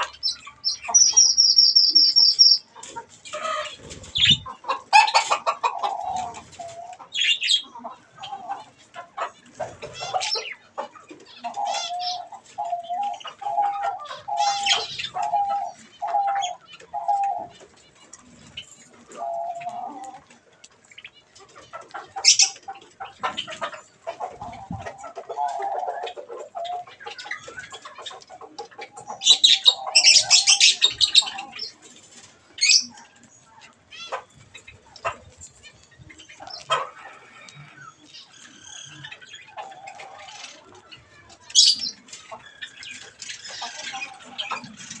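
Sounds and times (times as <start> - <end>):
doves cooing: 0.0 - 20.5, 21.2 - 45.0
budgerigars chirping and chattering: 0.0 - 45.0.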